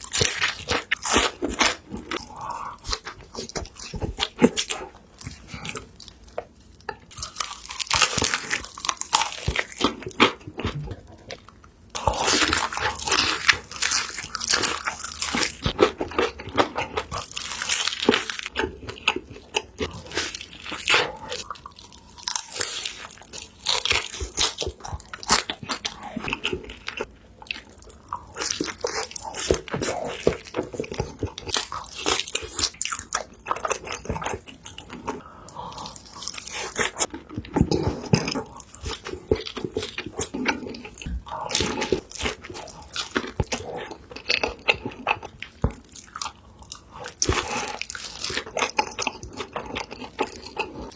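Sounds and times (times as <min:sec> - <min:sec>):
crunchy chewing of crisp food: 0:00.0 - 0:50.9.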